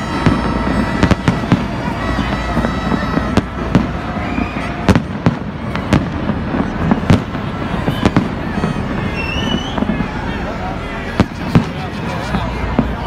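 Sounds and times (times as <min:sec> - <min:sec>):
firework bangs: 0:00.0 - 0:13.0
firework crackling: 0:00.0 - 0:13.0.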